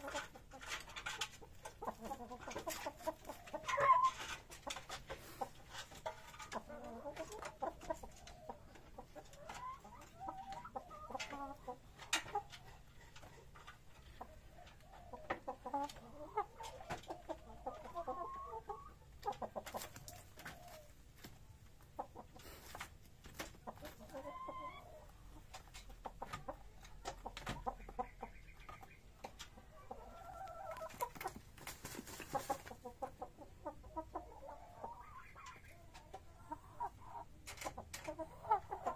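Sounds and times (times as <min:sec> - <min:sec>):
rooster clucking softly: 0:00.0 - 0:21.0, 0:21.6 - 0:38.9.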